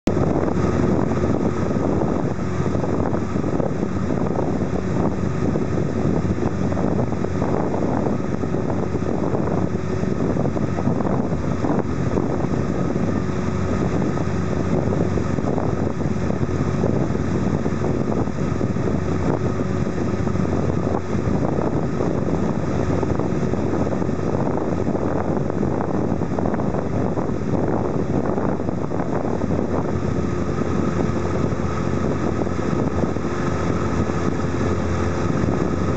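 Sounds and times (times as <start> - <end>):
motorboat engine running: 0.0 - 35.9
wind noise on microphone: 0.0 - 35.9.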